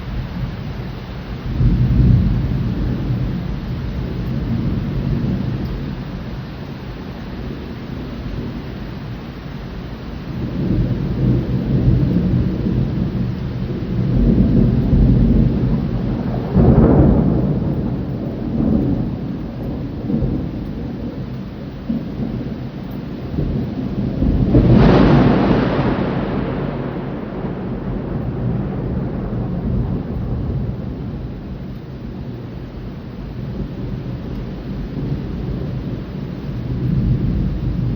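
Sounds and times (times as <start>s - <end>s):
thunder rumbling: 0.0s - 37.9s
thunder claps: 1.4s - 6.3s, 10.3s - 37.9s.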